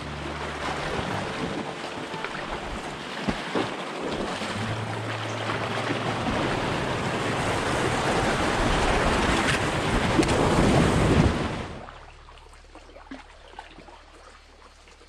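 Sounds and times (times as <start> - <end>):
white water rushing: 0.0 - 12.3.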